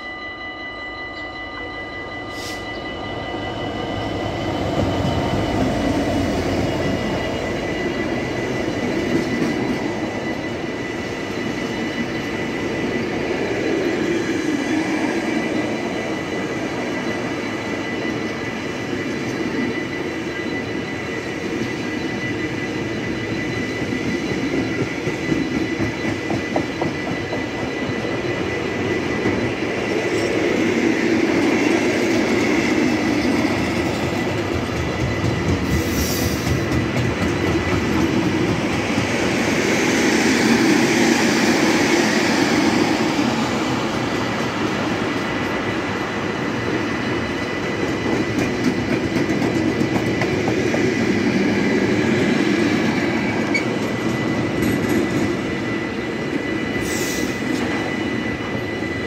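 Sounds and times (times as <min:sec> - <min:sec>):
diesel locomotive passing: 0:00.0 - 0:59.0
steady high tone: 0:00.0 - 0:59.0.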